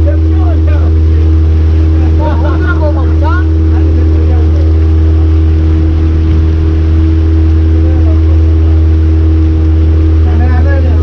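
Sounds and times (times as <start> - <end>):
motorboat engine drone: 0.0 - 11.0.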